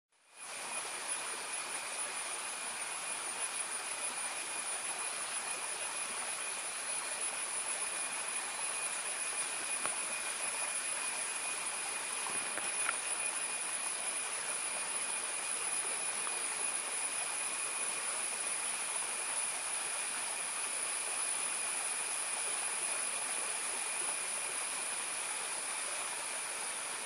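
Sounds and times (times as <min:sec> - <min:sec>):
forest insects chorus: 0:00.3 - 0:27.0.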